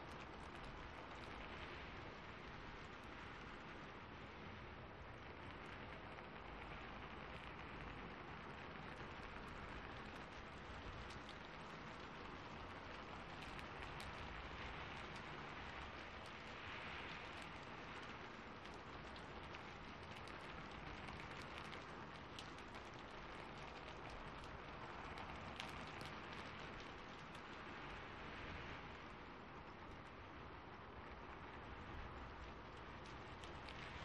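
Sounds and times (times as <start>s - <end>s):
small sharp crackles: 0.0s - 34.0s
steady rain falling: 0.0s - 34.0s.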